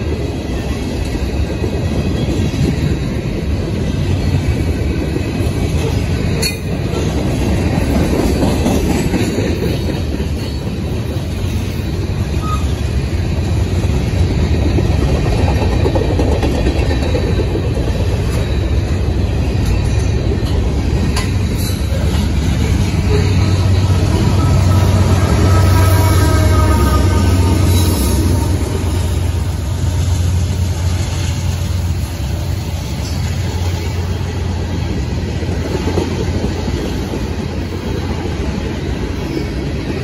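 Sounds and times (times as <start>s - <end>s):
steel wheels on rail: 0.0s - 40.0s.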